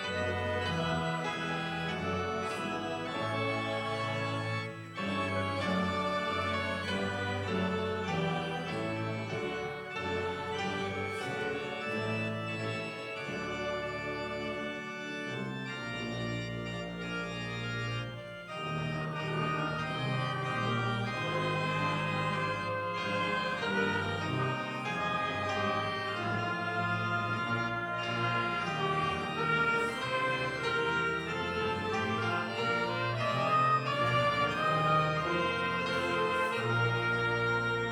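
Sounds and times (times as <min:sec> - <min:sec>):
organ playing hymn chords: 0:00.0 - 0:37.9.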